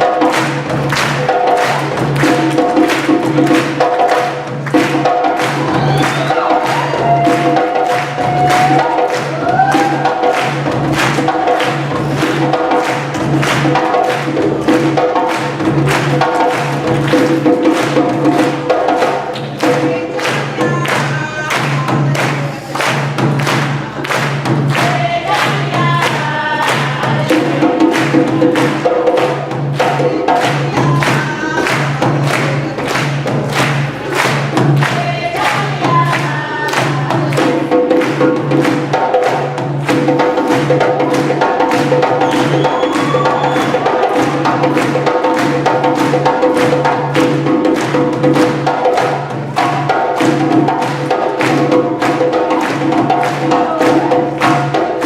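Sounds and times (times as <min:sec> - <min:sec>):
people singing: 0:00.0 - 0:12.9, 0:18.7 - 0:47.1, 0:48.6 - 0:55.0
drum beat: 0:00.0 - 0:55.0.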